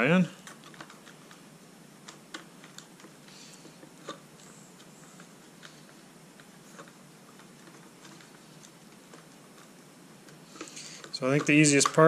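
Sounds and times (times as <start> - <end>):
faint steady background noise: 0.0 - 12.0
plastic parts clicking and tapping: 0.4 - 1.4, 2.0 - 4.2, 4.8 - 12.0.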